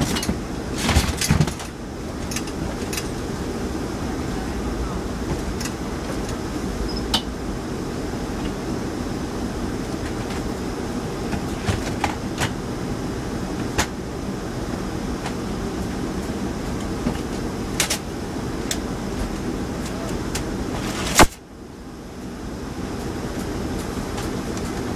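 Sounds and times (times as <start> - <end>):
low machine rumble: 0.0 - 20.9.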